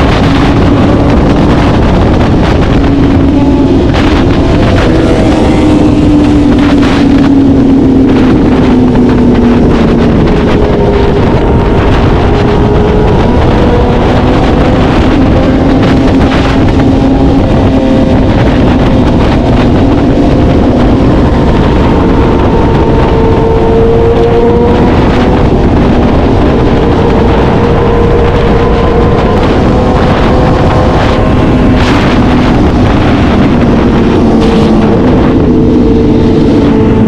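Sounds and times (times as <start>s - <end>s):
engine at high revs: 0.0s - 37.0s
wind rush on microphone: 0.0s - 37.0s.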